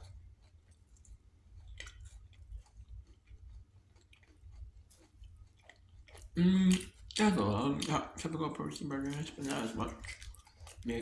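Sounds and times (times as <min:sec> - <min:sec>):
faint chewing: 0:00.0 - 0:11.0
low steady hum: 0:00.0 - 0:11.0.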